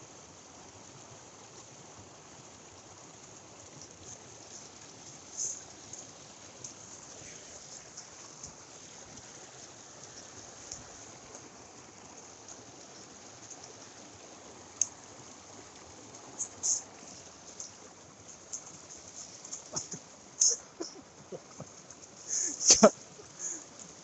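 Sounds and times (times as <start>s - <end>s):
stream water running: 0.0s - 24.0s.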